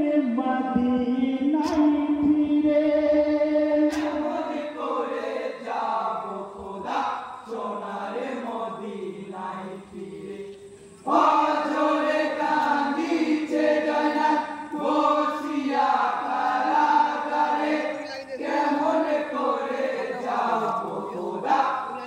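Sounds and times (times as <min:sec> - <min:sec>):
men singing a lament in chorus: 0:00.0 - 0:22.0.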